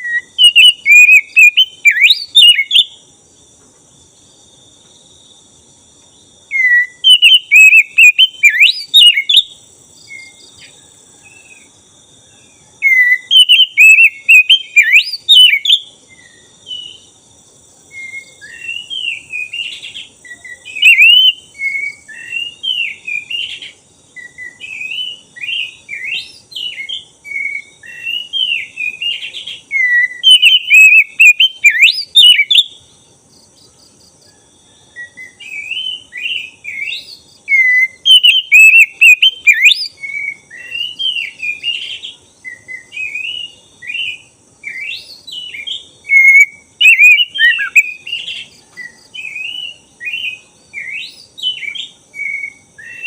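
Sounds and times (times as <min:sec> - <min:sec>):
bird singing whistled warbling notes: 0:00.0 - 0:03.0, 0:06.5 - 0:11.7, 0:12.3 - 0:17.2, 0:17.9 - 0:32.9, 0:34.8 - 0:53.0.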